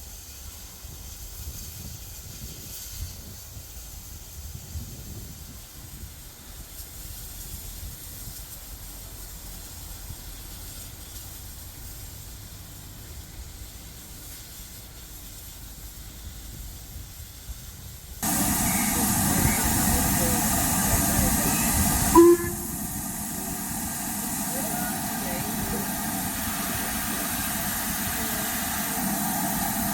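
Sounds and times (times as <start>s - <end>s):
steam locomotive hissing: 0.0s - 29.9s.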